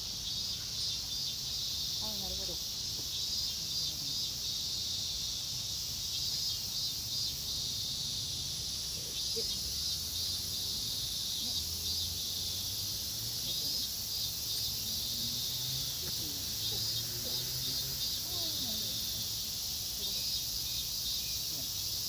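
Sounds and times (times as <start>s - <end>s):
insects buzzing and trilling: 0.0s - 22.0s.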